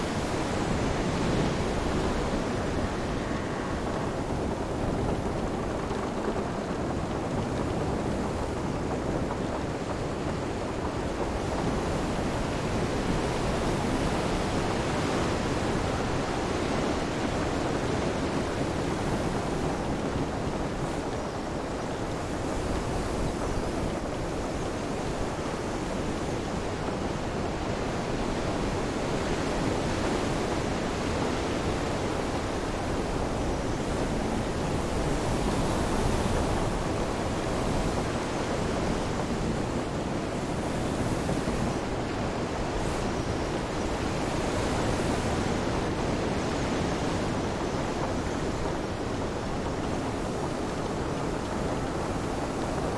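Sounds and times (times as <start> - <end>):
rain: 0.0 - 52.9
wind: 0.0 - 52.9.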